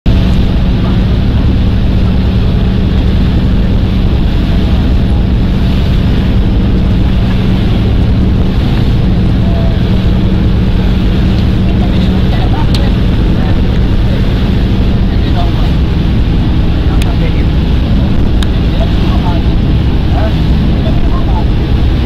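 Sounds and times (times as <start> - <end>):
motorboat engine droning: 0.0 - 22.0
wind buffeting the microphone: 0.0 - 22.0
rushing water: 0.1 - 22.0.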